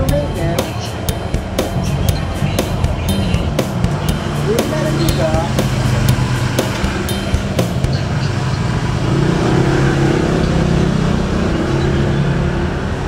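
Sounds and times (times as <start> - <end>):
boat diesel engines droning: 0.0 - 13.0.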